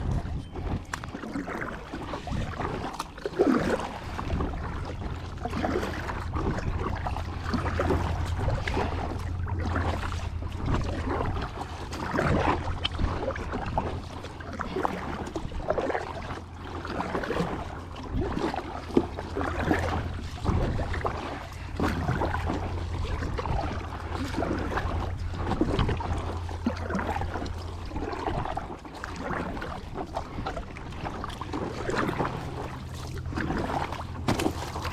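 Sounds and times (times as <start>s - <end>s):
water splashing around kayak: 0.0s - 34.9s
wind rumble on microphone: 0.0s - 34.9s.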